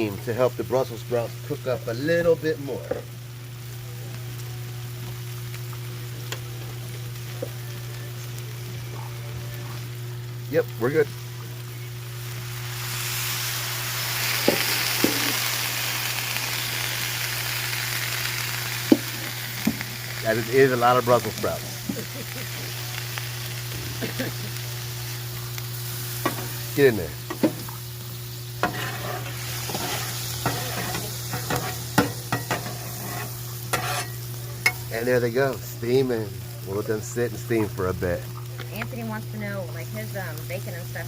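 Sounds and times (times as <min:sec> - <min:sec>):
food sizzling on a griddle: 0:00.0 - 0:41.0.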